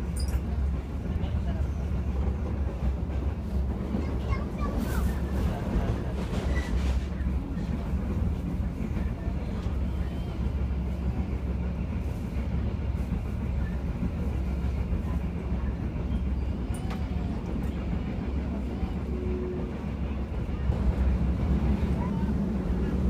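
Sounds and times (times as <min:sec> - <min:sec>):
train rumble and wheel-on-rail noise: 0:00.0 - 0:23.0.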